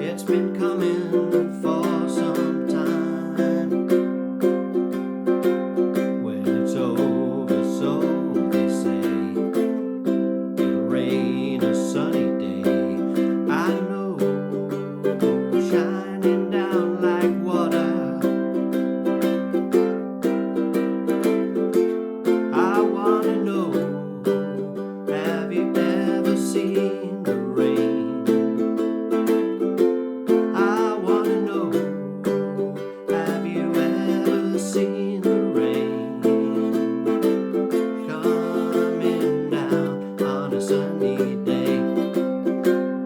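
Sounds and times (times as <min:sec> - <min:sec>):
ukulele strumming: 0:00.0 - 0:43.0.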